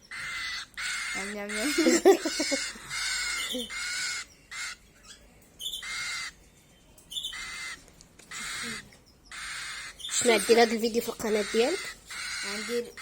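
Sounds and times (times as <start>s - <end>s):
fledglings raspy begging calls: 0.0s - 6.4s, 7.1s - 13.0s.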